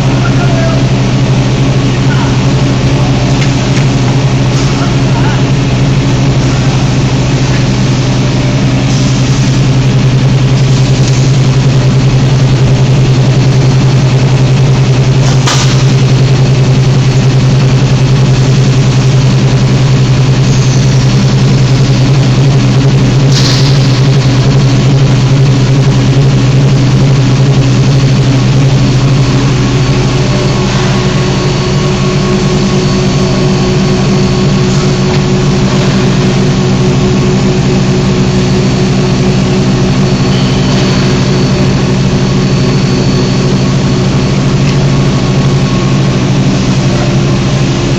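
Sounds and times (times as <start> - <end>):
low mechanical motor hum: 0.0 - 47.9.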